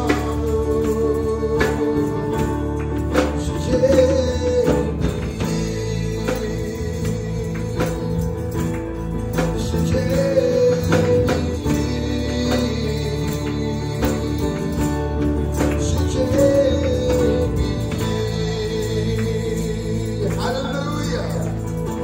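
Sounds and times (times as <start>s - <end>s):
acoustic guitar strumming: 0.0s - 22.0s
band accompaniment: 0.0s - 22.0s
man singing: 0.0s - 22.0s.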